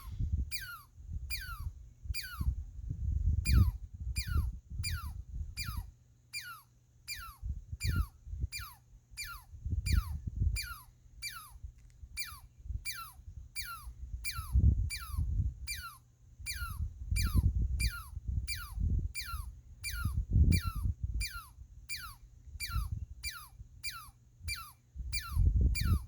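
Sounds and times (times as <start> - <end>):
squirrel chirping: 0.0 - 2.6, 3.4 - 26.0
low wind rumble: 0.0 - 6.1, 7.4 - 26.0.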